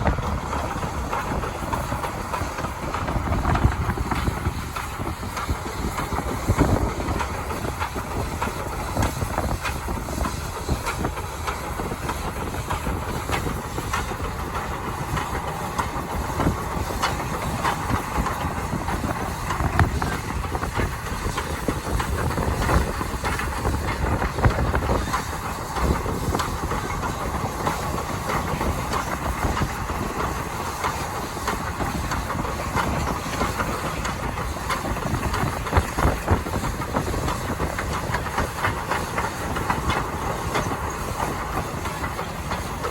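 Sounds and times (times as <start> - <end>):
steam hissing: 0.0 - 42.9
wheels clicking and clacking: 0.0 - 42.9.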